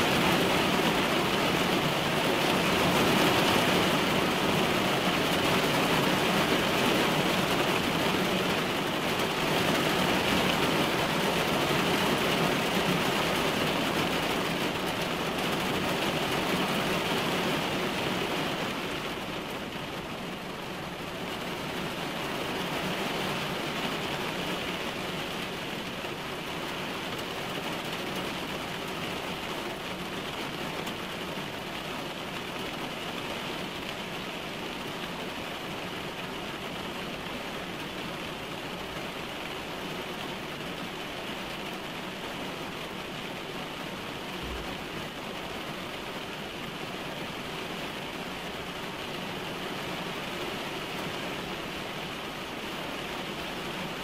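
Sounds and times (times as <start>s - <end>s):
heavy rain on car: 0.0s - 54.0s.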